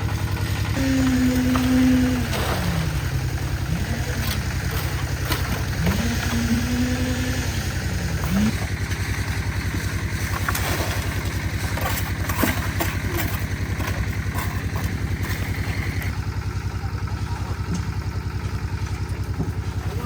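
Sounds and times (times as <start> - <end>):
small engine chugging: 0.0 - 20.0.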